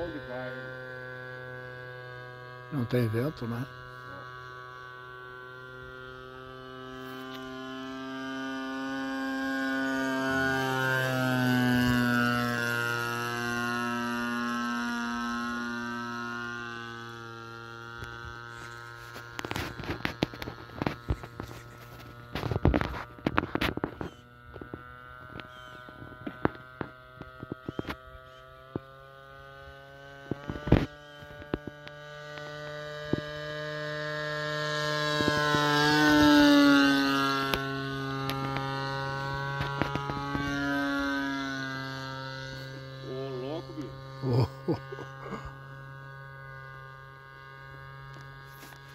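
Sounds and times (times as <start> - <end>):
model airplane engine: 0.0 - 48.9.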